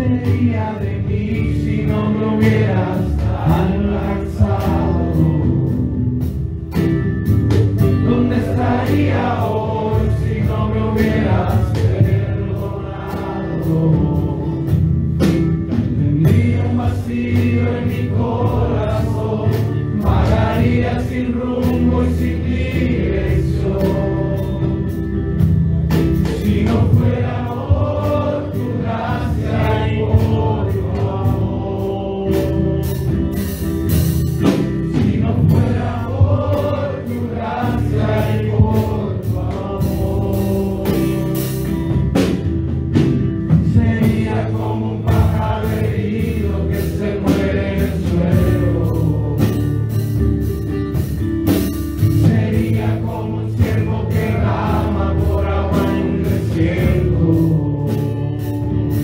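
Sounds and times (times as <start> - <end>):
group singing gospel song: 0.0 - 59.0
sharp rhythmic beats: 0.0 - 59.0.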